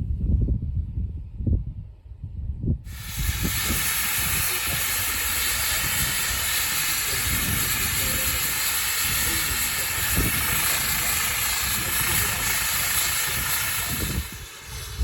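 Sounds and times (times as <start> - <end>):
steam locomotive hissing: 2.9 - 15.0.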